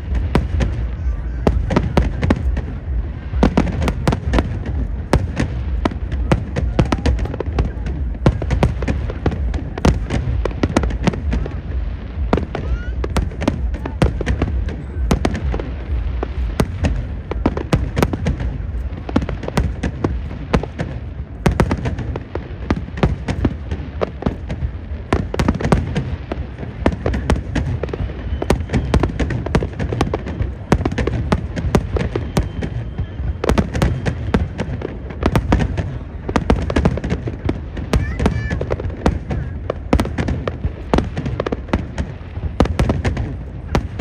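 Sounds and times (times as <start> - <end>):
continuous low rumble: 0.0 - 44.0
fireworks bangs and crackling: 0.0 - 44.0.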